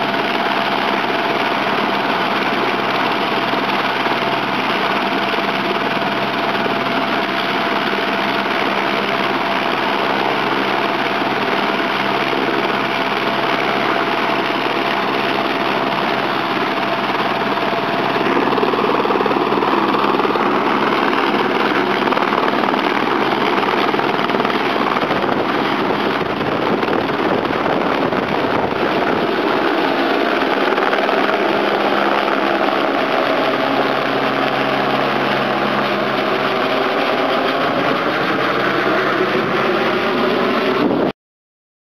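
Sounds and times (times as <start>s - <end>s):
helicopter turbine whine: 0.0s - 41.1s
helicopter rotor noise: 0.0s - 41.2s.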